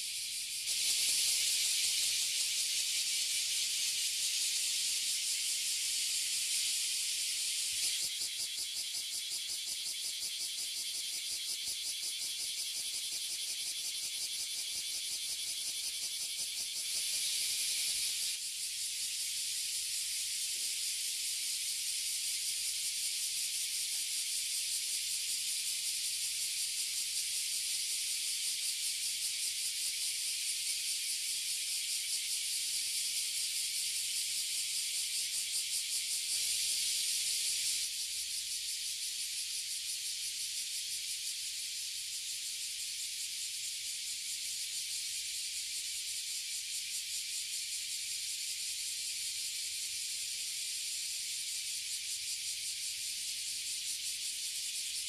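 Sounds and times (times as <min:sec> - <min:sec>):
cicadas sizzling drone: 0:00.0 - 0:55.0.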